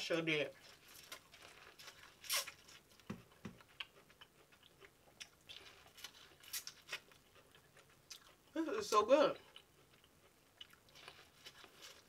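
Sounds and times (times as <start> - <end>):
faint chewing of corn: 0.5 - 8.6, 9.3 - 12.0.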